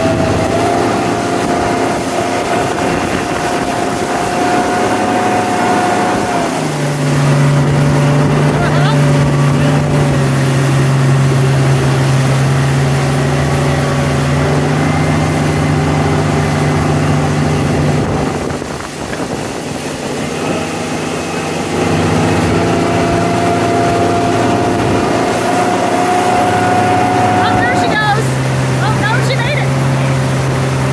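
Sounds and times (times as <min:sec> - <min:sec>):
wind noise: 0:00.0 - 0:28.5
motorboat engine running: 0:00.0 - 0:30.9
water noise: 0:00.0 - 0:30.9.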